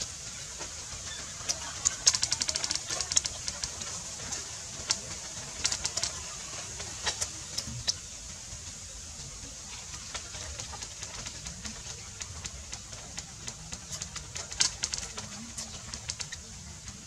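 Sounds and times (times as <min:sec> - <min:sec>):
sharp crackling clicks: 0:00.6 - 0:08.1, 0:09.9 - 0:17.0.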